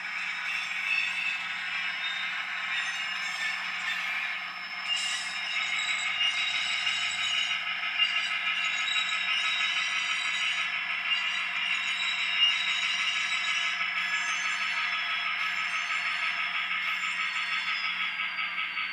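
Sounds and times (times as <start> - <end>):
model train motor whine: 0.0 - 18.9
wheels rattling on rails: 0.0 - 18.9.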